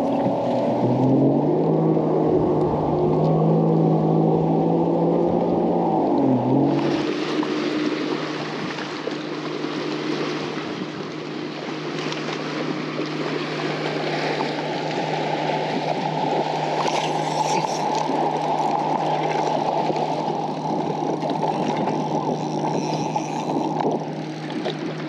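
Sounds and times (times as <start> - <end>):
wind on microphone: 0.0 - 9.1, 12.0 - 25.0
electric trolling motor hum: 0.0 - 25.0
water slapping boat hull: 0.0 - 25.0.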